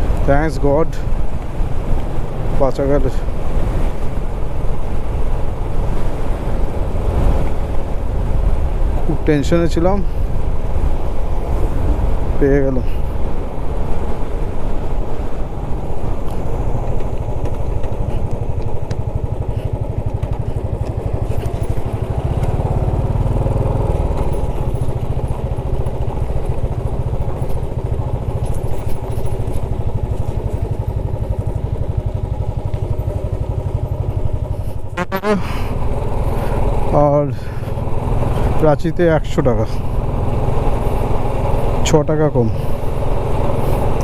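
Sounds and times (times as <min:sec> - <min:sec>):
motorcycle engine rumble: 0:00.0 - 0:44.0.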